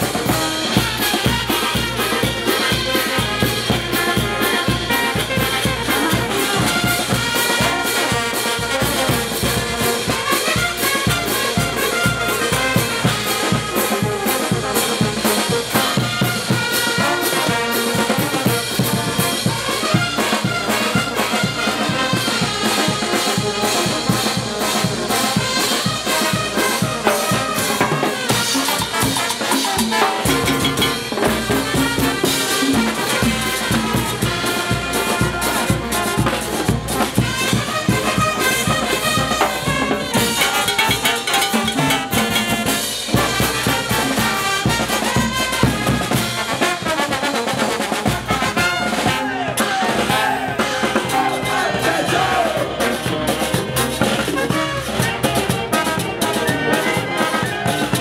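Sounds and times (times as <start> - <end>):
drums with steady beat: 0.0 - 58.0
trumpets and trombones: 0.0 - 58.0.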